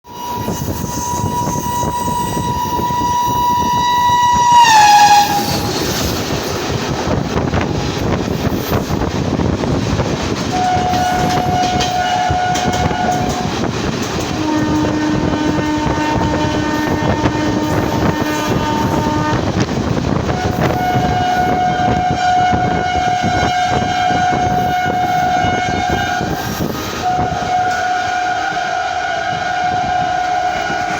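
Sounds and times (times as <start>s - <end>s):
train rumble and rail clatter: 0.0s - 30.9s
train horn: 0.1s - 6.0s, 10.5s - 30.9s.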